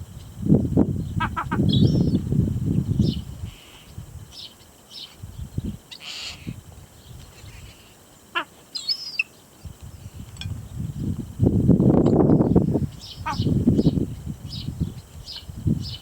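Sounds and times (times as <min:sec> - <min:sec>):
birds chirping: 0:01.0 - 0:11.2, 0:12.1 - 0:16.0.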